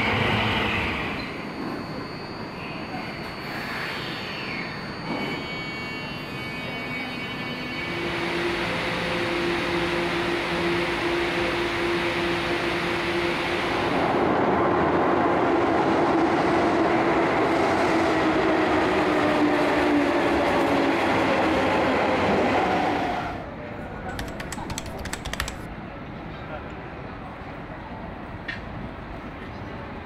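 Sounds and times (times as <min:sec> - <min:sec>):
subway train running noise: 0:00.0 - 0:30.0.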